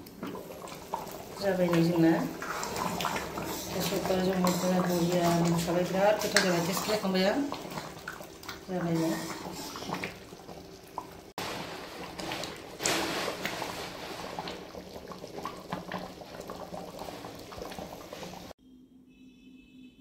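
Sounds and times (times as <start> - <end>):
ladle stirring: 0.0 - 18.5
curry bubbling in a metal pan: 0.0 - 18.6.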